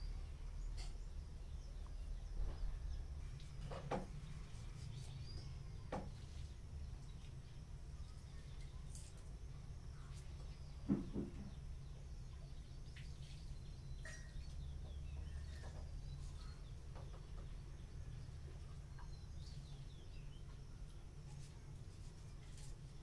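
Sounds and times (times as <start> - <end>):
distant bird chirps: 0.0 - 20.9
steady low hum: 0.0 - 23.0.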